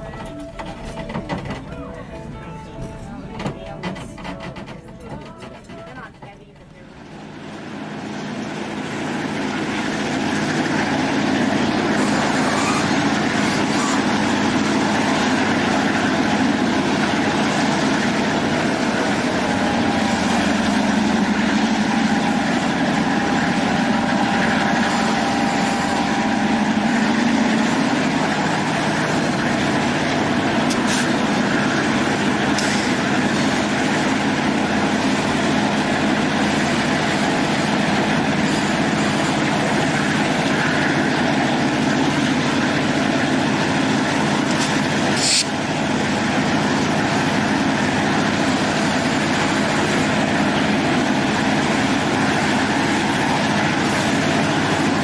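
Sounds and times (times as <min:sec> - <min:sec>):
diesel locomotive drone: 0:00.0 - 0:55.0
steel wheels on track: 0:00.0 - 0:55.0.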